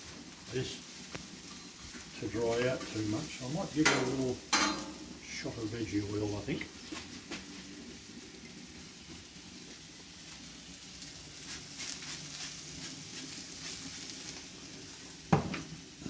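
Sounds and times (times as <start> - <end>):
oil crackling: 0.0 - 16.0
onions sizzling on griddle: 0.0 - 16.0.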